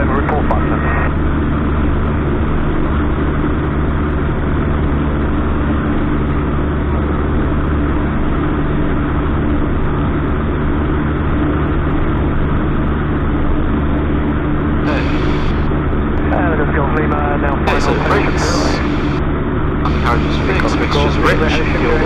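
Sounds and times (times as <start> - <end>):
small plane engine droning: 0.0 - 22.0.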